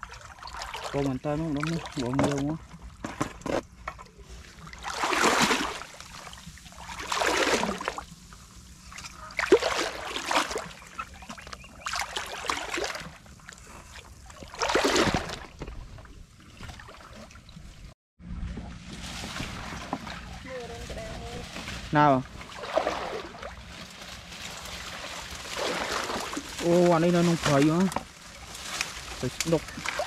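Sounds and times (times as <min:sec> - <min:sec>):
wading through muddy water: 0:00.0 - 0:02.9, 0:04.0 - 0:30.0.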